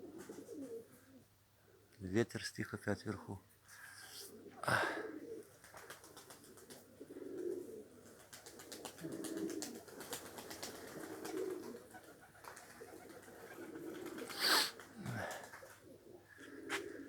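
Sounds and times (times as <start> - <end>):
pigeons cooing: 0.0 - 1.8, 4.2 - 17.0.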